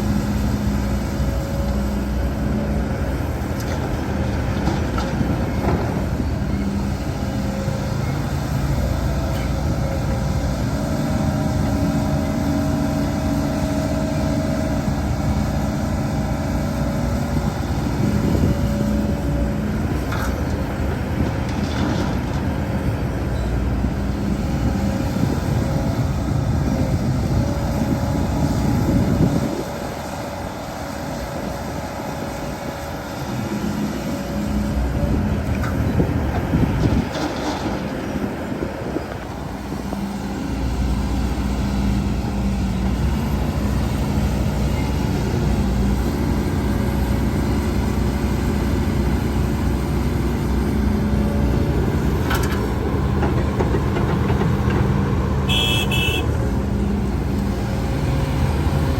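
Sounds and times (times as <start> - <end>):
heavy diesel machinery engine drone: 0.0 - 58.9.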